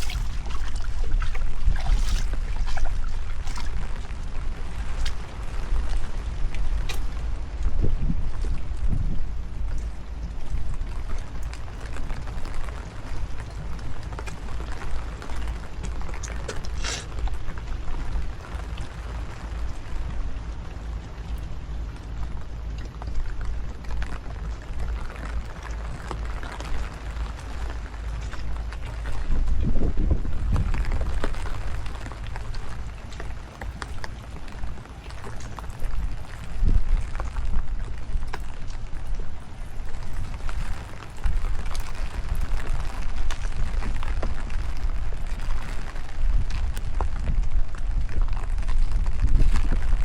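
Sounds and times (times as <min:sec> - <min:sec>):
rain pattering: 0:00.0 - 0:50.0
wind buffeting microphone: 0:00.0 - 0:50.0.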